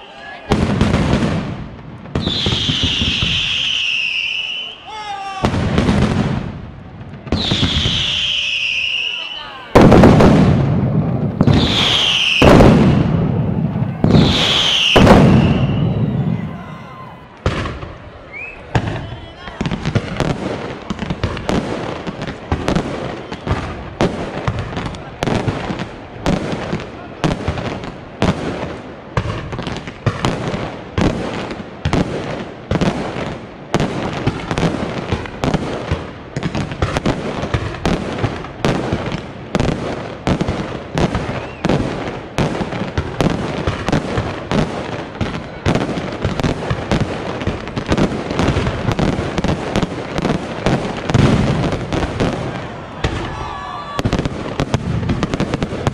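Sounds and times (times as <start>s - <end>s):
firecrackers banging: 0.0s - 55.9s.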